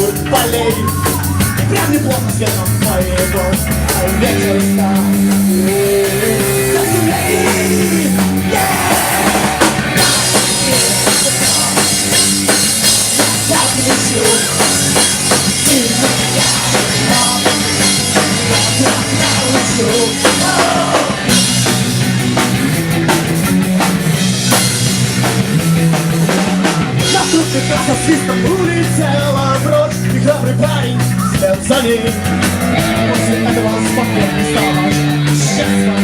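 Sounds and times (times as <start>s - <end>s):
bass guitar: 0.0s - 36.0s
rock band playing: 0.0s - 36.0s.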